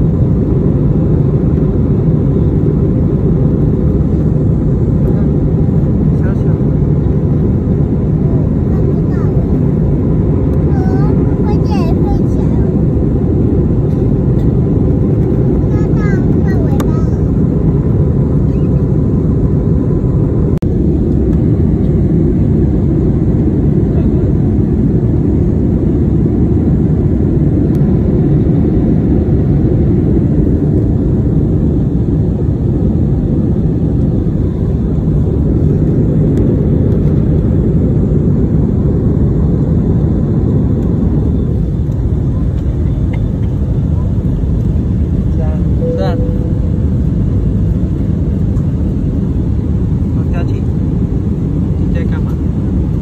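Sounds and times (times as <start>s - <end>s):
jet airliner cabin noise: 0.0s - 53.0s.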